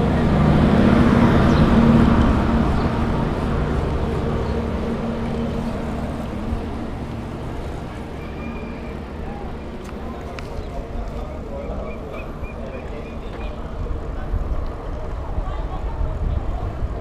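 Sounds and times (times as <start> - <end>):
motor engine humming: 0.0 - 16.9.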